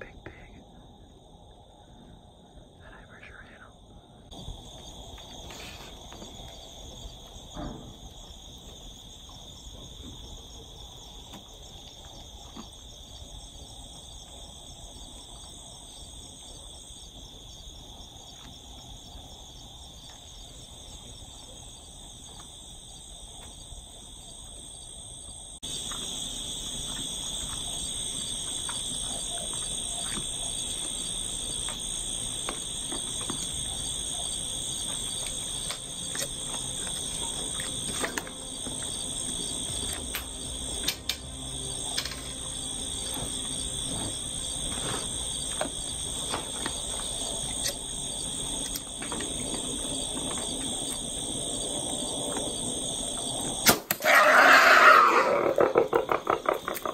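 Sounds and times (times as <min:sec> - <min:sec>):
insect chorus buzzing: 0:00.0 - 0:56.9.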